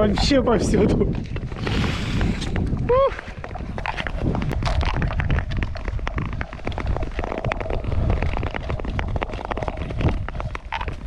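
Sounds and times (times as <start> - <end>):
ice clicking and cracking: 0.0 - 11.0
wind rumble on microphone: 0.0 - 11.0.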